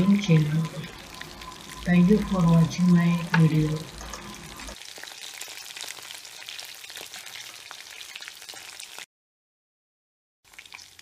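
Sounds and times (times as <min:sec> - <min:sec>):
chicken deep-frying sizzle: 0:00.0 - 0:09.1, 0:10.4 - 0:11.0.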